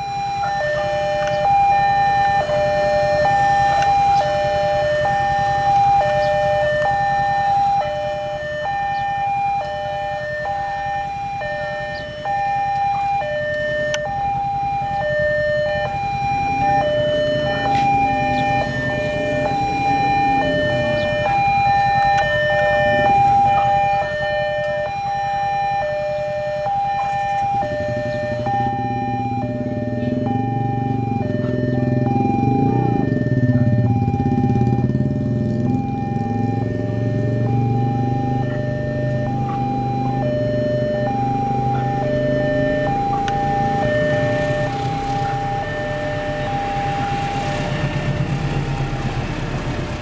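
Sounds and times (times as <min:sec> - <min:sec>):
level crossing two-tone alarm: 0:00.0 - 0:48.4.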